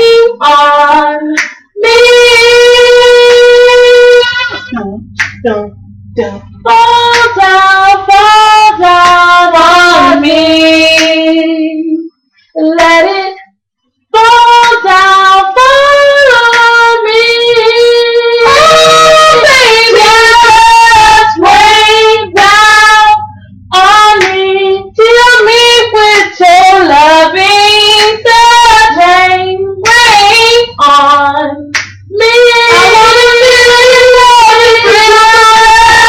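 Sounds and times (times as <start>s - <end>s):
woman singing without words: 0.0s - 13.5s, 14.2s - 36.0s.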